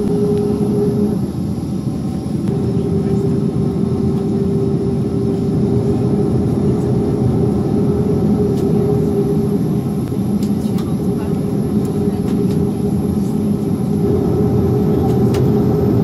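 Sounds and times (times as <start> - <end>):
jet engine cabin rumble: 0.0 - 16.0.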